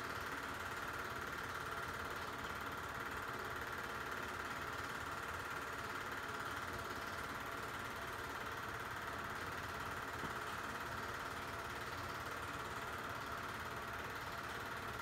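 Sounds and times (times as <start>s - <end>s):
film projector whirring: 0.0s - 15.0s.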